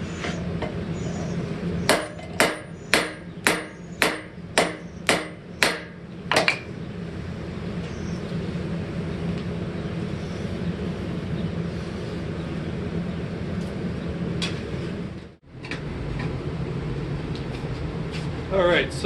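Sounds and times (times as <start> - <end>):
mechanical hum and rush: 0.0 - 19.0.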